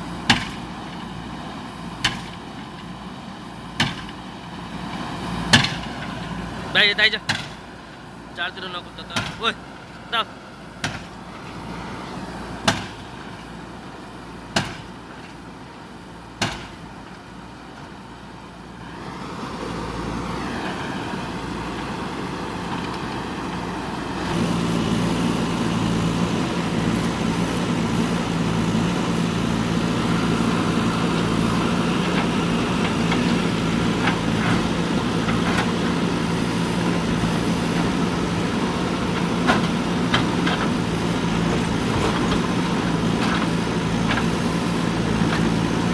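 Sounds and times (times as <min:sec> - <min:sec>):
backhoe diesel engine running: 0:00.0 - 0:45.9.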